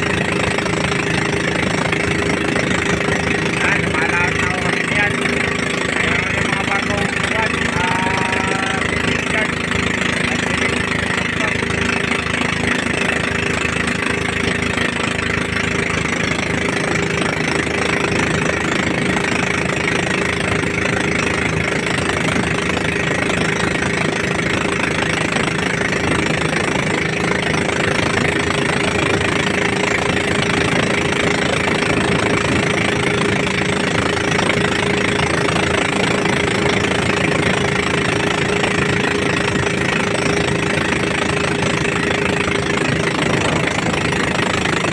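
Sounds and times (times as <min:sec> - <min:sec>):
boat motor running: 0:00.0 - 0:44.9.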